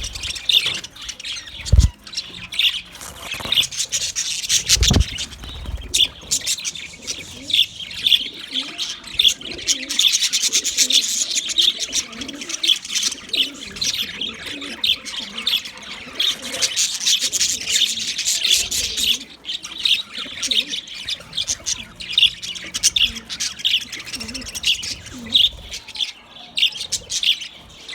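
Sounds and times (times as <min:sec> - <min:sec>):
budgerigars chirping and chattering: 0:00.0 - 0:27.9.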